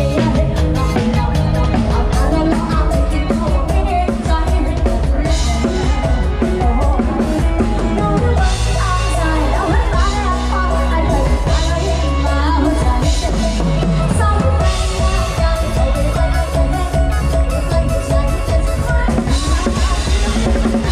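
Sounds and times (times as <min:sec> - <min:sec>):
amplified folk-pop band music: 0:00.0 - 0:20.9
drum-kit beat with heavy bass: 0:00.0 - 0:20.9.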